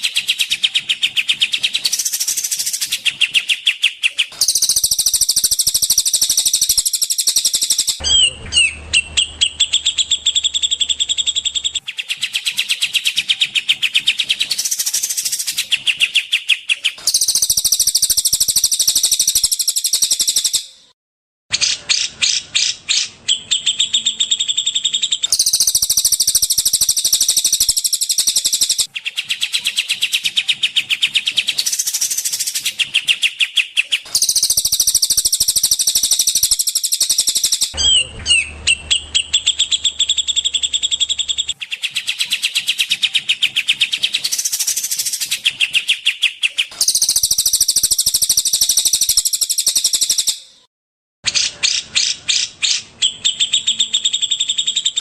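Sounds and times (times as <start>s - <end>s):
songbird trills and chattering: 0.0s - 20.6s, 22.0s - 50.4s.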